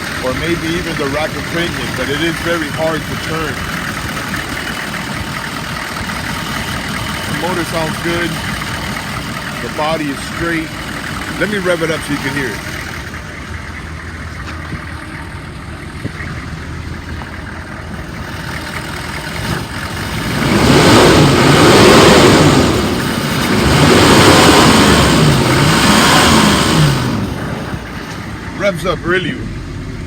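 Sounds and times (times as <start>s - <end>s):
diesel engine idling and revving: 0.0s - 30.0s.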